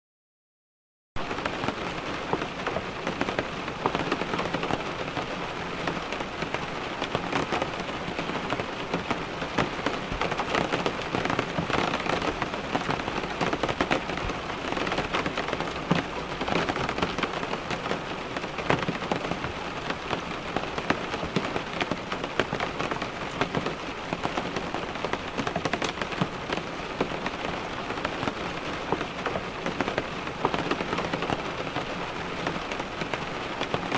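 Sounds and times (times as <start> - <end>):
rain falling: 1.2 - 33.9
raindrops ticking on glass: 1.4 - 33.9.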